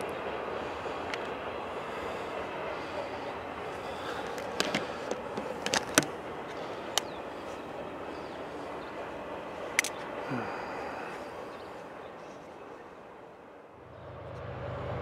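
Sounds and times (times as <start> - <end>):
train wheels rumbling on rails: 0.0 - 12.2, 13.8 - 15.0.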